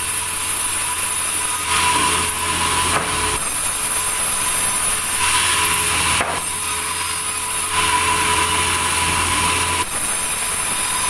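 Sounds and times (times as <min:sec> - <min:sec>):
band saw cutting timber: 0:00.0 - 0:11.0.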